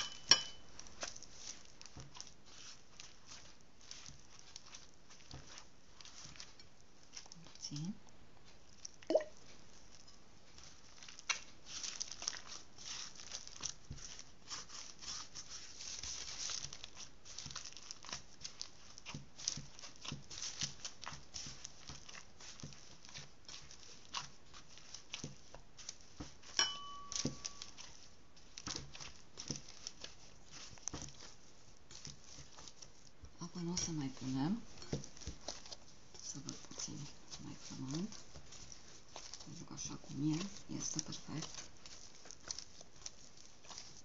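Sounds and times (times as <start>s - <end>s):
hands kneading sticky dough: 0.0s - 44.0s.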